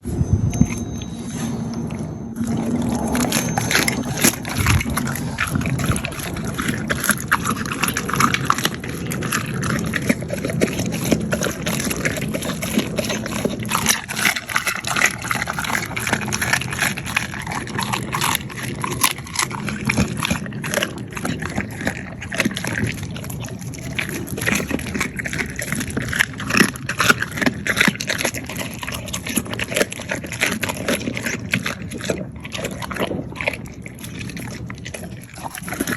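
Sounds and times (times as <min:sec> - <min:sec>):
dog crunching food: 0:00.5 - 0:35.9.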